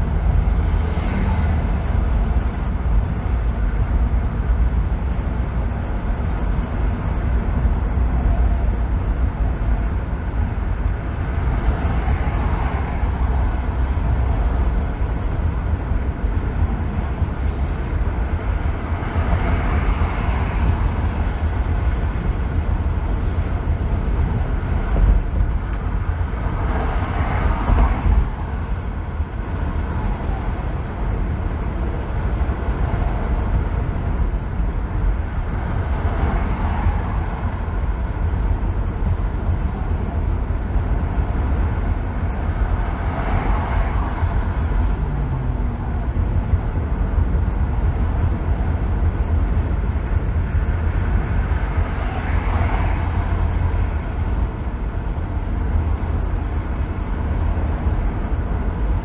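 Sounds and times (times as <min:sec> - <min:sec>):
tyre and road noise: 0:00.0 - 0:59.0.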